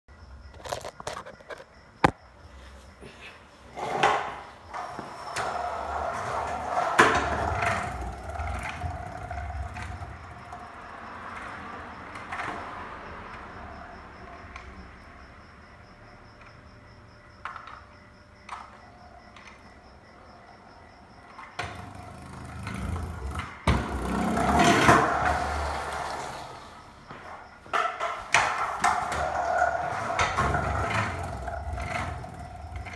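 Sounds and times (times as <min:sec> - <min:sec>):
scooter wheels rolling on concrete: 0:00.3 - 0:32.9.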